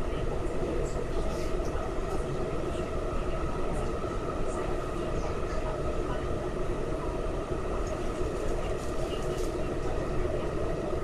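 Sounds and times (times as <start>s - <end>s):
rumble of wheels on rail: 0.0s - 11.0s.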